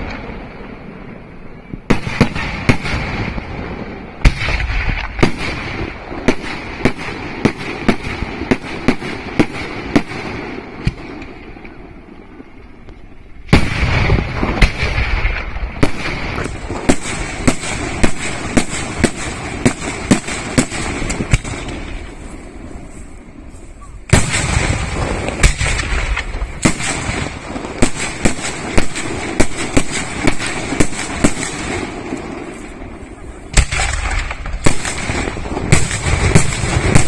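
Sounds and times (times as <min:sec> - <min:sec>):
firework heavy booms: 0:00.0 - 0:12.6, 0:13.4 - 0:22.9, 0:24.0 - 0:37.0
firework sharp bangs: 0:00.0 - 0:12.6, 0:13.4 - 0:22.7, 0:24.1 - 0:37.0.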